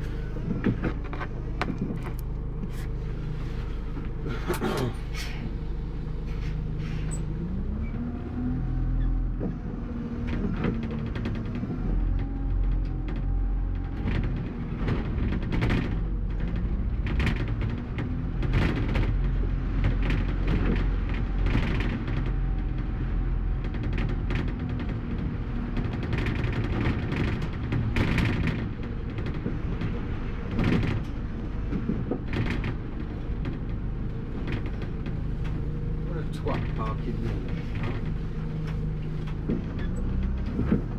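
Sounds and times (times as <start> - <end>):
bus engine humming: 0.0 - 40.9.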